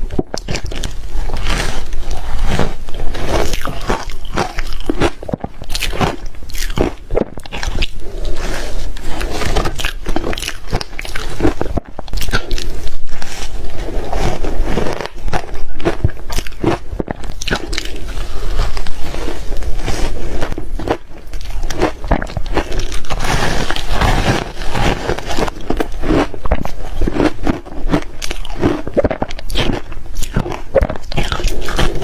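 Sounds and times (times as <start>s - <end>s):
chewing crunchy ice: 0.0s - 32.0s.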